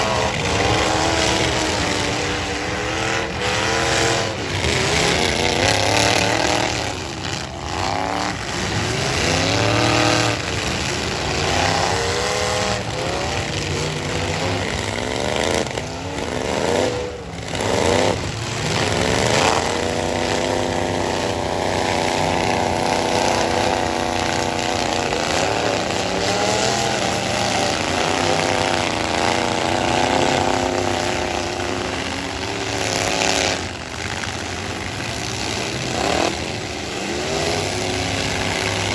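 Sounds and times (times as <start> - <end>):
truck engines revving hard: 0.0 - 38.9.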